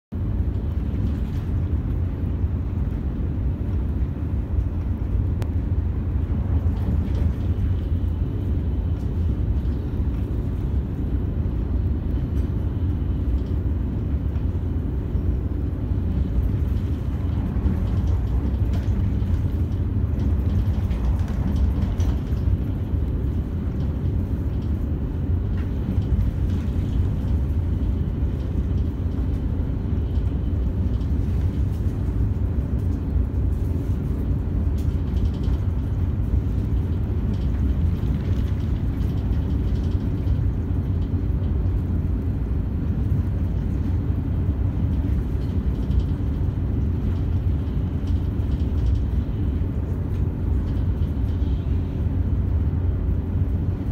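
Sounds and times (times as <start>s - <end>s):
train cabin low rumble: 0.1s - 53.9s.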